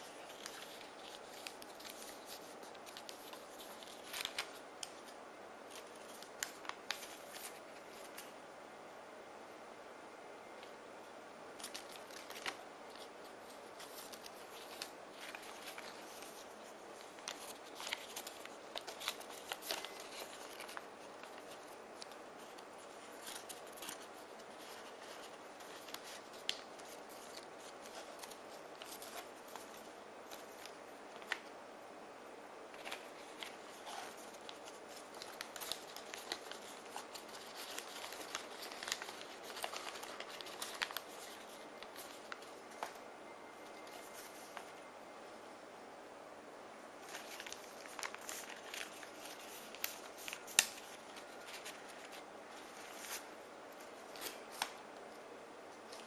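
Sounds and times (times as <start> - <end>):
paper rustling: 0.0 - 8.3, 11.6 - 31.5, 32.7 - 43.0, 43.6 - 44.8, 47.0 - 54.8
steady hiss: 0.0 - 56.0.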